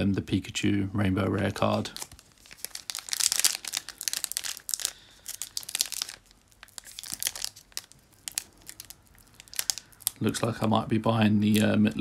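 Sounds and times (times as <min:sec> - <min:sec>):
foil wrapper crinkling: 0:01.3 - 0:10.7, 0:11.4 - 0:12.0.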